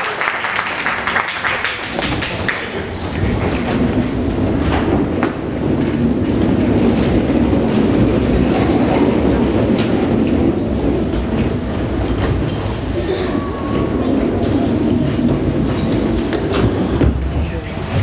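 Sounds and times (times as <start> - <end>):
wheels rumbling across stage: 0.0 - 18.0.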